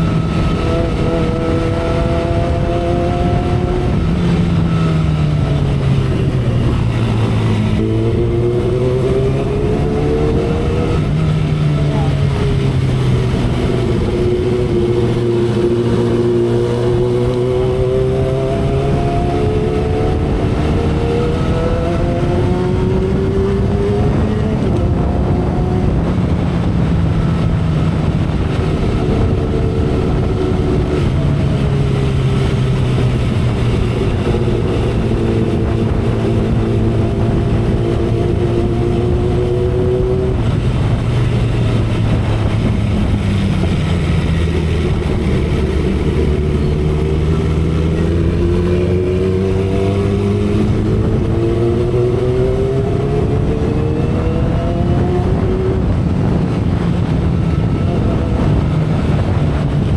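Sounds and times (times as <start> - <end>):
motorcycle engine running: 0.0 - 59.9
wind rushing: 0.0 - 59.9.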